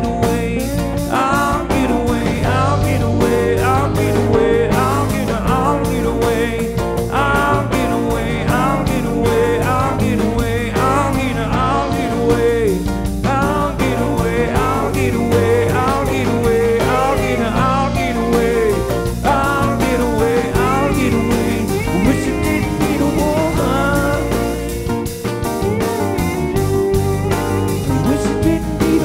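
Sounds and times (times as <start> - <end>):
acoustic guitar: 0.0 - 29.0
electric bass: 0.0 - 29.0
keyboard: 0.0 - 29.0
two voices singing: 0.0 - 29.0.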